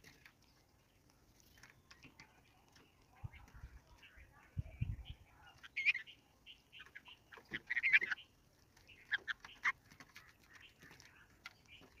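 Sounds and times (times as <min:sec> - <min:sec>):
birds chirping and chattering: 0:00.0 - 0:12.0.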